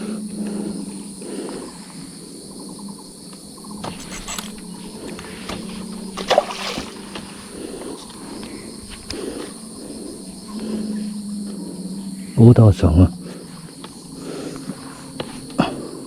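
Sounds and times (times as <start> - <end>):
crickets chirping: 0.0 - 16.0
low steady hum: 0.0 - 16.0.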